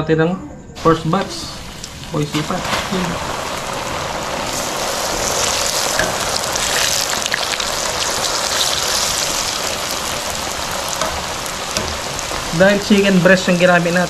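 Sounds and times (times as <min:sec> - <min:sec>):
chicken deep-frying in oil: 0:00.8 - 0:14.0.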